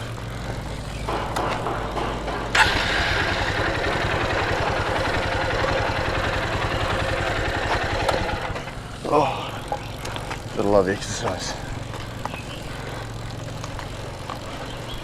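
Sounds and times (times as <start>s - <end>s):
motorbike engine idling: 0.0s - 15.0s.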